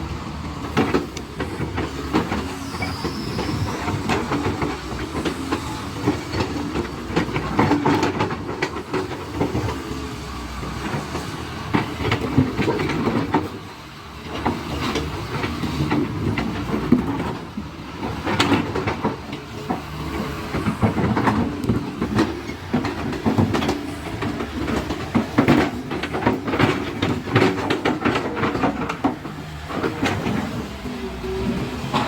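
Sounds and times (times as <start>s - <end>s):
excavator diesel engine: 0.0s - 32.0s.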